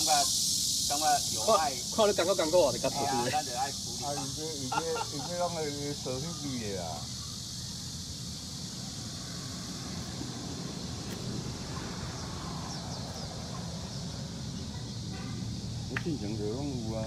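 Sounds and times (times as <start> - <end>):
high hiss: 0.0 - 17.0.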